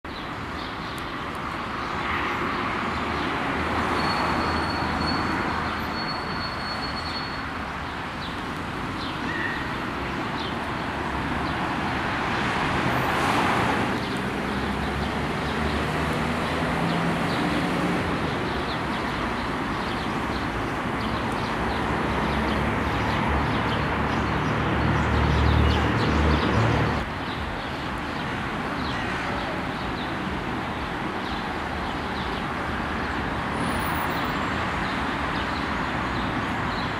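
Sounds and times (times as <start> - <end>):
passing vehicles: 0.1 - 36.9.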